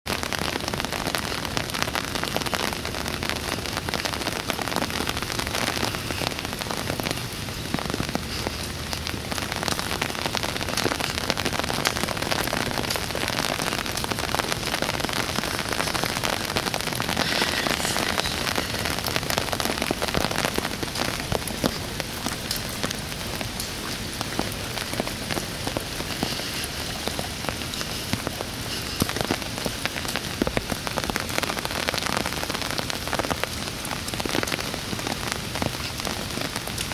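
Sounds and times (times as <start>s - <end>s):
heavy rain falling: 0.1s - 36.9s.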